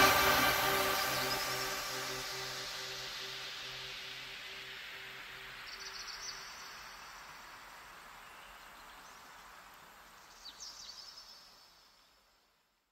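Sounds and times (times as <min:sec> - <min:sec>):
soft hiss of noise: 0:00.0 - 0:12.9.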